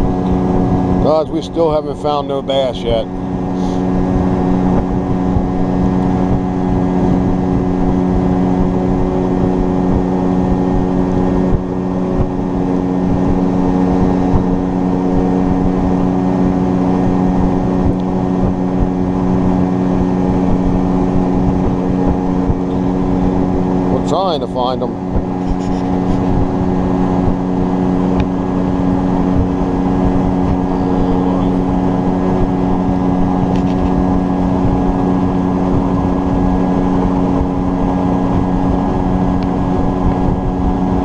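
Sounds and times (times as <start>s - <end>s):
boat motor running: 0.0s - 41.0s.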